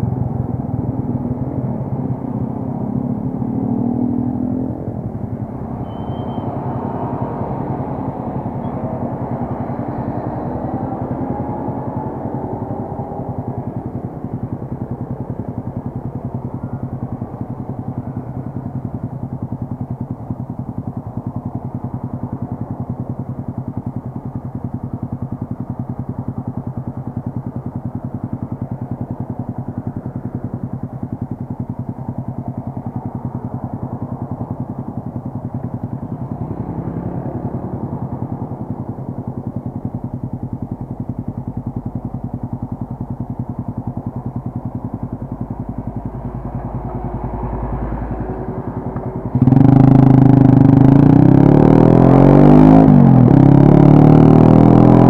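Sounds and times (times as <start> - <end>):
motorcycle idling: 0.0 - 55.0.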